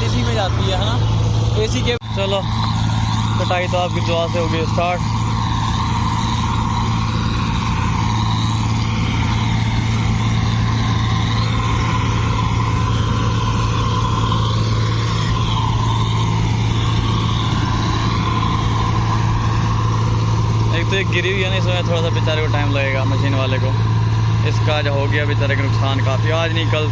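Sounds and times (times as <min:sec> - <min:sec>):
combine harvester droning: 0:00.0 - 0:26.9.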